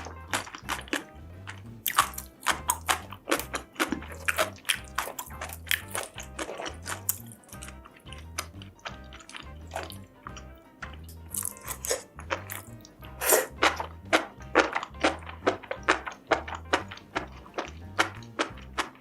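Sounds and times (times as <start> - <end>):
person chewing and crunching food: 0.0 - 19.0.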